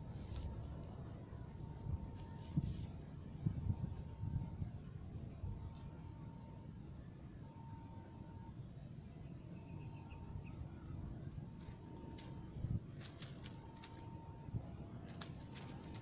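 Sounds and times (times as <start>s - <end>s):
insect chirps: 0.0s - 16.0s
insects trilling: 0.0s - 16.0s.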